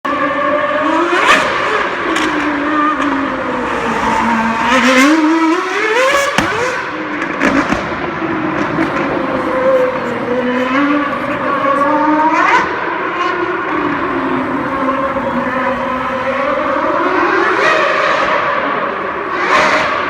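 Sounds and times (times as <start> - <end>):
racing car engine revving: 0.1 - 20.0.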